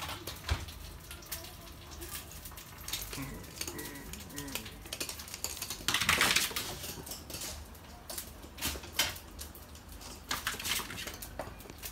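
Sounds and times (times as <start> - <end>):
dog claws clicking on floor: 0.0 - 11.9.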